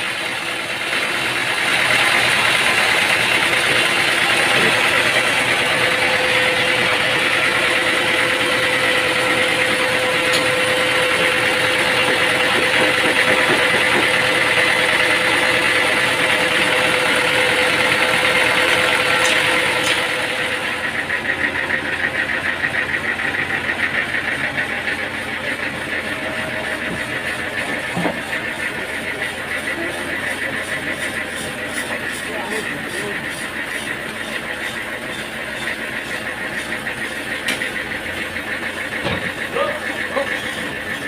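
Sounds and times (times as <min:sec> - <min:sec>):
machine engine running: 0:00.0 - 0:41.0.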